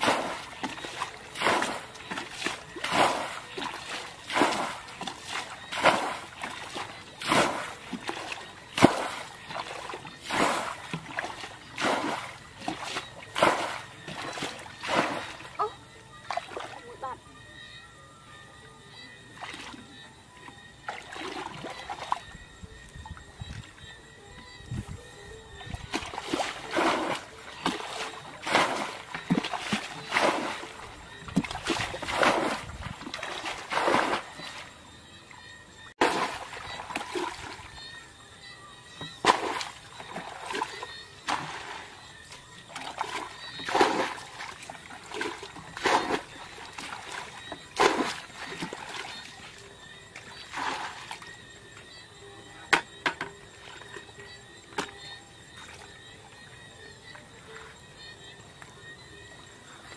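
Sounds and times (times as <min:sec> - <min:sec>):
muddy water splashing: 0:00.0 - 0:17.2, 0:18.9 - 0:59.9.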